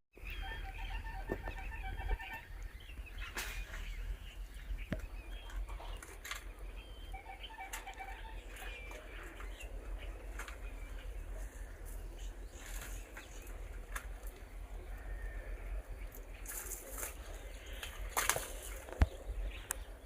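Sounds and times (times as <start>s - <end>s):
steady low rumble: 0.2s - 20.0s.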